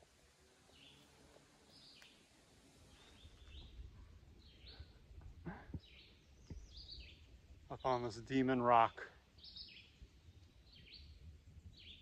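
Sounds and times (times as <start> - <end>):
birds chirping: 0.7 - 12.0.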